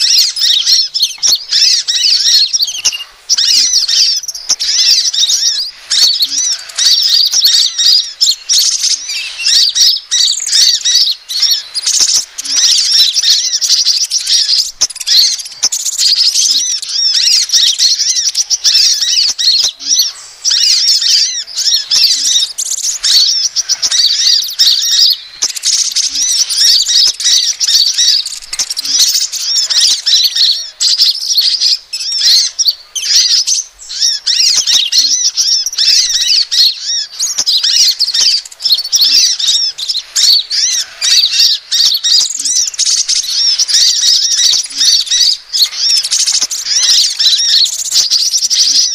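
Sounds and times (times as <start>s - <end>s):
high thin bird chirps: 0.0s - 48.9s.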